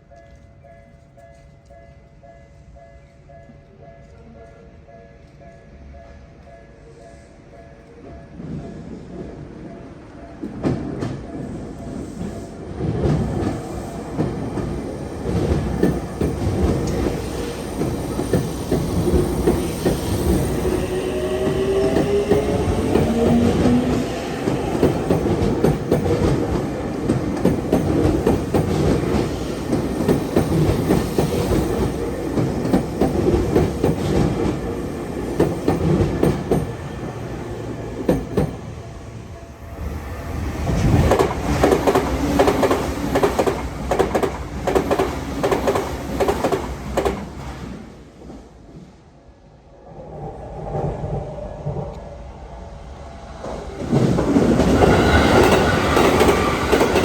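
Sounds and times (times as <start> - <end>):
electric train passing: 5.4 - 57.0.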